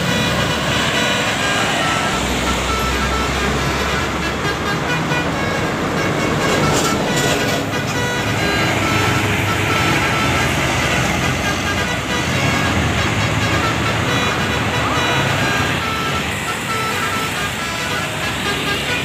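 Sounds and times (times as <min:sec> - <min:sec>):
multi-tone bus horns playing tunes: 0:00.0 - 0:19.0
road traffic rumble: 0:00.0 - 0:19.0.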